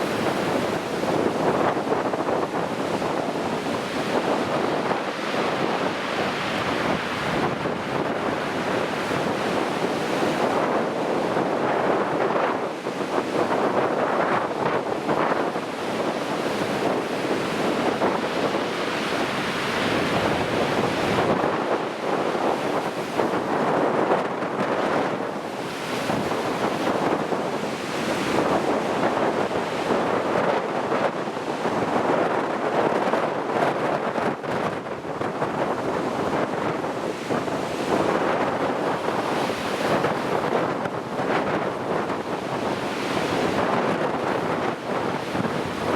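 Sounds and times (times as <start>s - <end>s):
heavy surf breaking: 0.0s - 45.9s
strong wind buffeting microphone: 0.0s - 45.9s.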